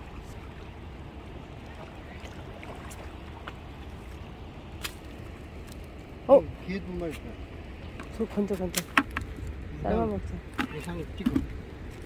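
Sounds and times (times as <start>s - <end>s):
low wind rumble: 0.0s - 12.0s.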